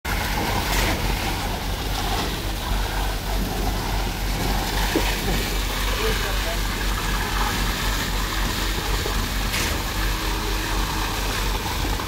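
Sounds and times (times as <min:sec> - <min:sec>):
diesel engine droning: 0:00.1 - 0:12.0.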